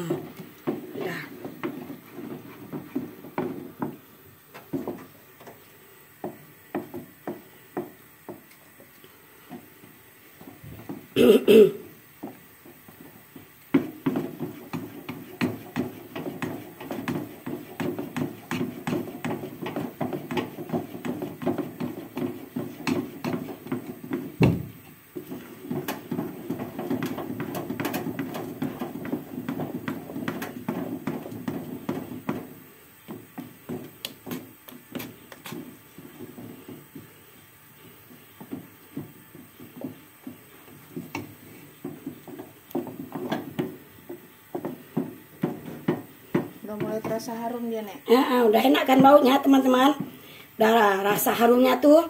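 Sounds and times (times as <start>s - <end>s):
utensil stirring in a pot: 0.0s - 11.2s, 11.8s - 52.0s.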